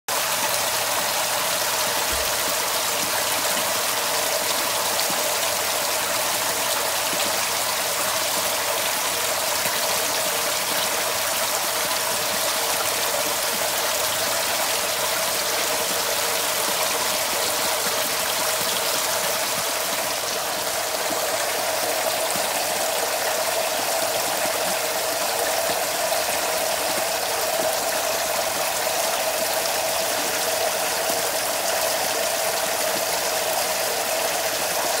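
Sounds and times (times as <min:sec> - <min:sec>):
water pouring into a tank: 0:00.1 - 0:35.0.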